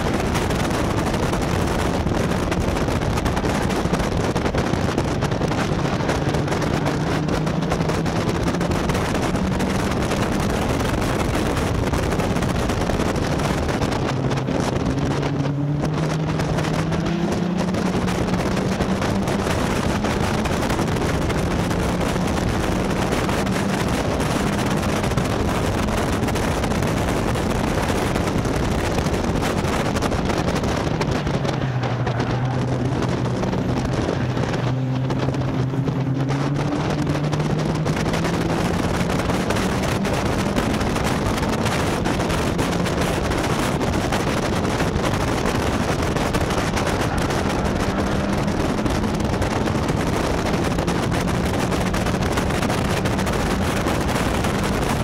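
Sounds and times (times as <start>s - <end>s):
race car engine running hard: 0.0s - 55.0s
wind noise on microphone: 0.0s - 55.0s.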